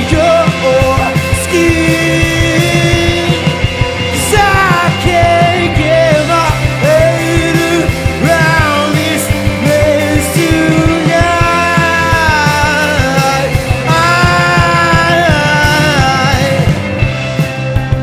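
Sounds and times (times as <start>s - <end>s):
drum kit with cymbals: 0.0s - 18.0s
electric guitars: 0.0s - 18.0s.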